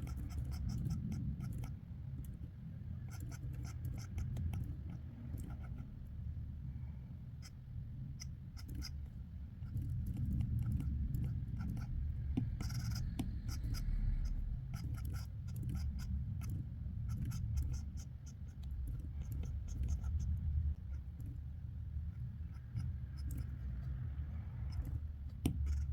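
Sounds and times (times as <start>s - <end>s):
drawing tool scratching on paper: 0.0s - 2.4s, 3.0s - 6.0s, 7.4s - 21.4s, 22.1s - 25.9s.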